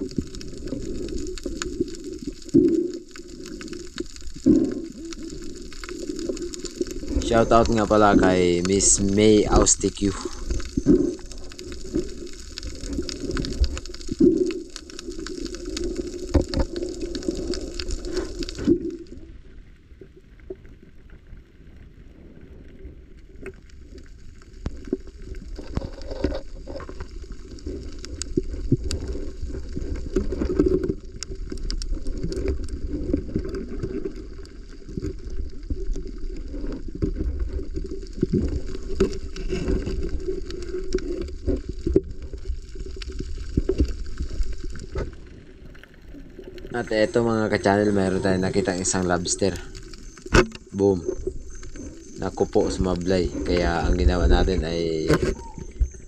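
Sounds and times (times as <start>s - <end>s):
sharp clicks and crackles: 0.0s - 19.5s, 22.6s - 56.0s
muffled underwater rumble: 0.0s - 56.0s.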